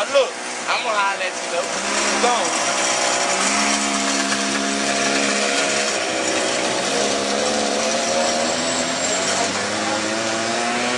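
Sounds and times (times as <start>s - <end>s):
small engine running: 1.4s - 10.9s.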